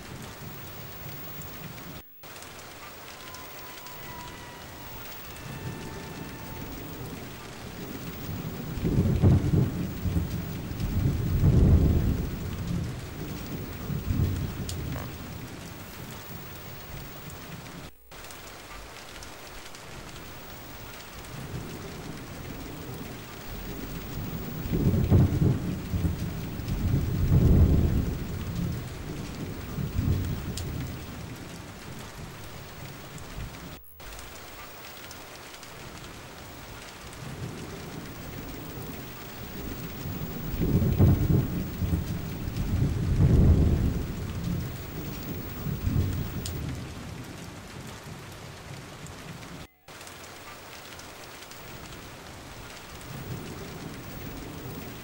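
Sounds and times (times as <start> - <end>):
rolling thunder: 0.0 - 34.4, 35.2 - 47.5, 50.9 - 55.0
steady rain: 0.0 - 55.0.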